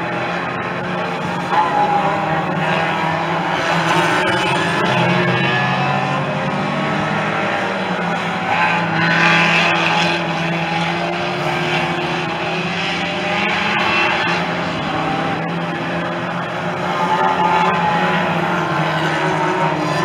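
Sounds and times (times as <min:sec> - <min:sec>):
race car engines running hard: 0:00.0 - 0:20.0.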